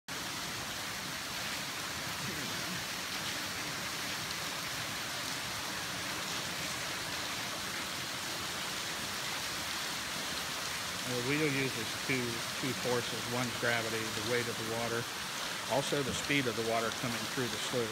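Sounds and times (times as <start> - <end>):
water splashing onto water wheel: 0.1 - 17.9.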